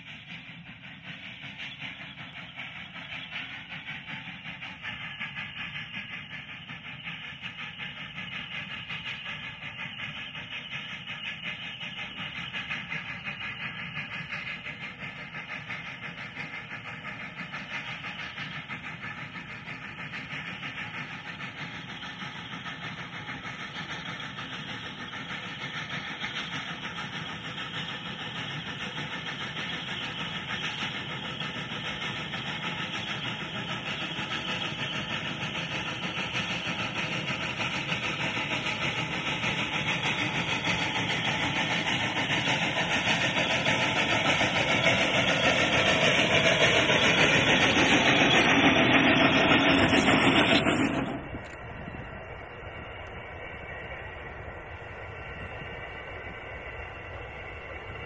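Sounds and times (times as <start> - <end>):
train running: 0.0 - 58.0.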